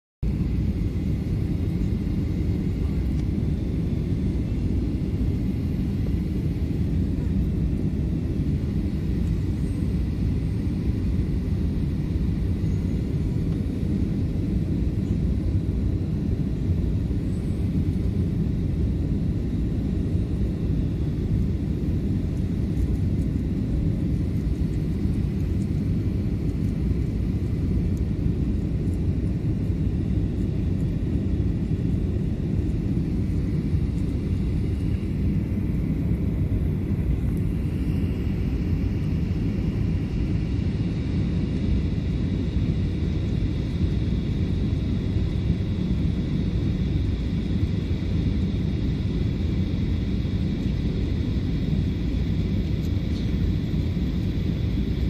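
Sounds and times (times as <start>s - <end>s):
airliner cabin rumble: 0.2s - 55.0s
faint high whine: 0.2s - 55.0s.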